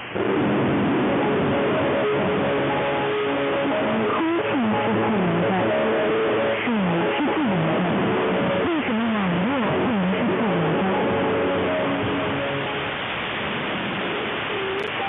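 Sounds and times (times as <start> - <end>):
music over radio: 0.0 - 15.0
static hiss: 0.0 - 15.0.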